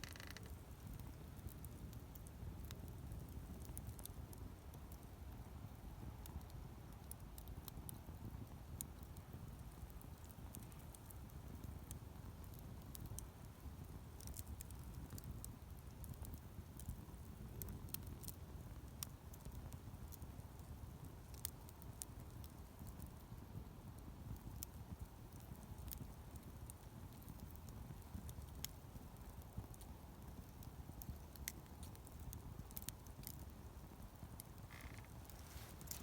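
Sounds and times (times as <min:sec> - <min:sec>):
burning wood crackling and popping: 0:00.0 - 0:36.0
campfire flames rumbling: 0:00.0 - 0:36.0.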